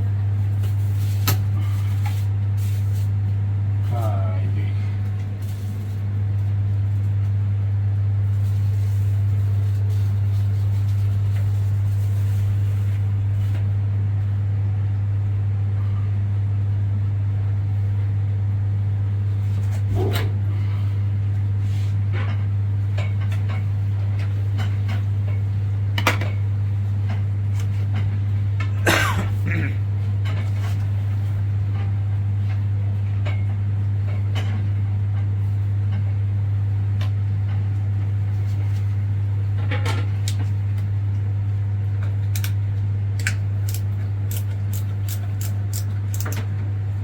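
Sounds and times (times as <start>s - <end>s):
microwave oven humming: 0.0s - 47.0s.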